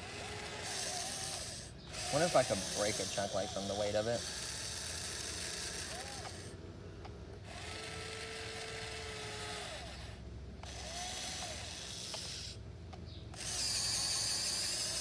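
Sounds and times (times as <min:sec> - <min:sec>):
electric motors whining: 0:00.0 - 0:06.6, 0:07.4 - 0:12.6, 0:13.3 - 0:15.0.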